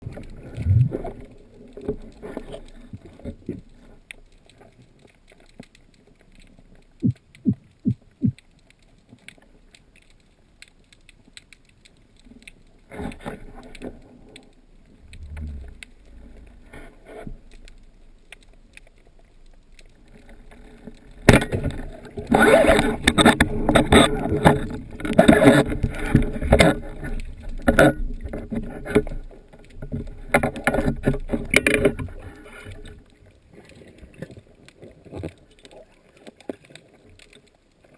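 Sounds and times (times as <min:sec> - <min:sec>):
water sloshing and splashing: 0:00.0 - 0:37.9.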